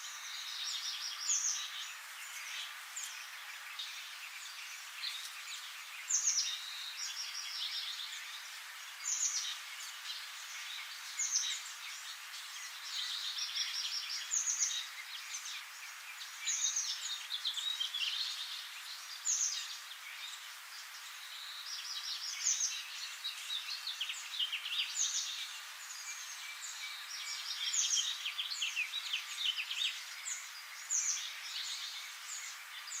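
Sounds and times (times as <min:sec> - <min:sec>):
birds chirping: 0:00.0 - 0:33.0
steady hiss: 0:00.0 - 0:33.0.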